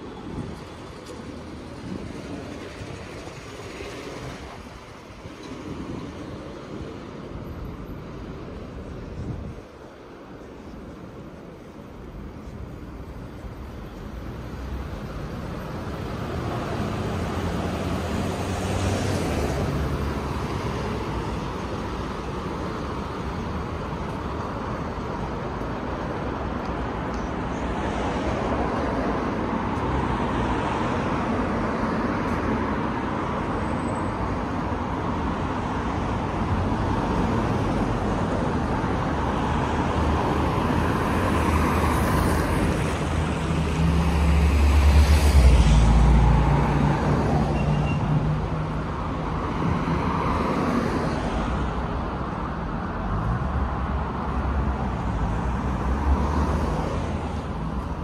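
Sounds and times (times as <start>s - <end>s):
cars driving by: 0.0s - 58.0s.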